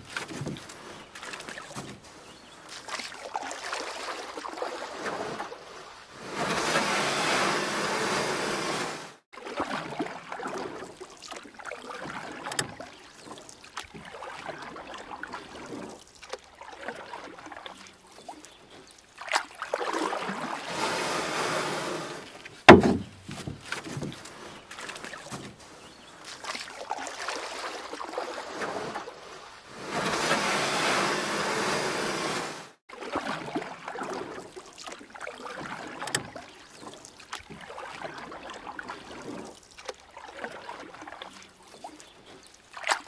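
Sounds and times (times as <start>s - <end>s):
paddle splashing water: 0.0s - 43.0s.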